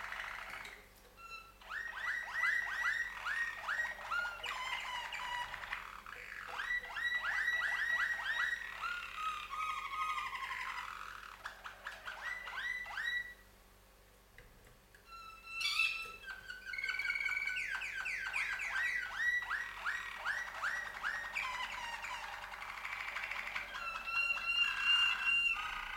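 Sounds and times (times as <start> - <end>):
canaries singing trills: 0.0 - 13.5, 15.0 - 25.9.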